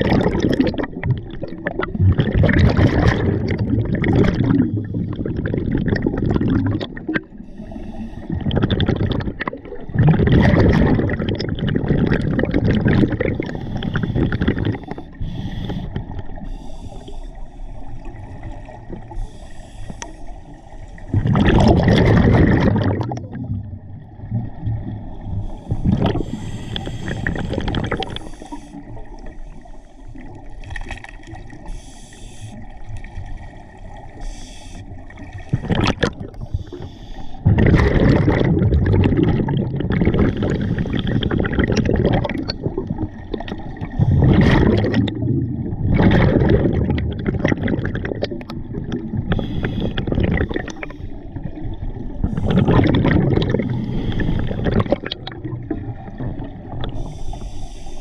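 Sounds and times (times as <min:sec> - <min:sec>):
exhaled bubbles gurgling: 0:00.0 - 0:58.0.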